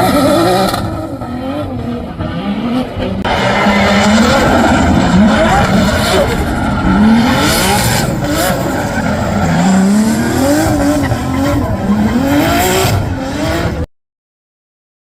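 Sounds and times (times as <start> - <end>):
car engine revving hard: 0.0 - 13.9.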